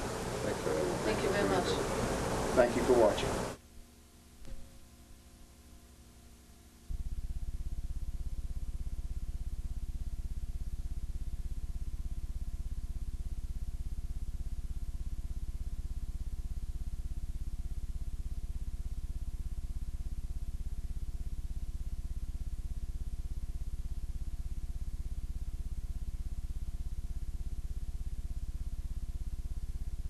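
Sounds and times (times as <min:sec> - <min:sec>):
low electrical buzz: 0:00.0 - 0:30.0.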